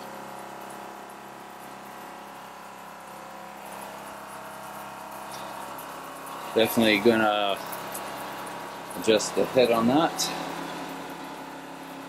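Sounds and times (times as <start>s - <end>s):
water pump running: 0.0s - 12.0s.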